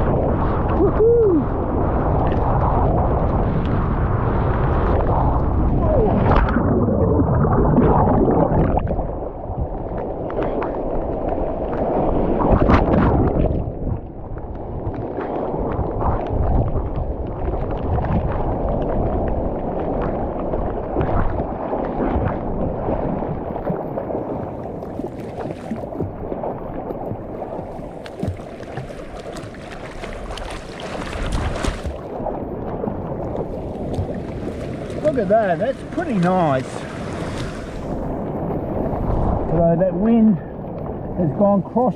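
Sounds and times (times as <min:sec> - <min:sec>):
seawater sloshing and gurgling: 0:00.0 - 0:41.9
wind on microphone: 0:00.0 - 0:41.9.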